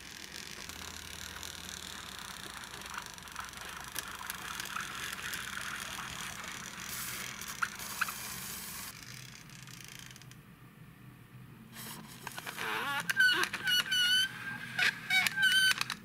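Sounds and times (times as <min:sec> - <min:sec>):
toy car wheels rolling on wood: 0:00.0 - 0:10.3, 0:12.2 - 0:16.0.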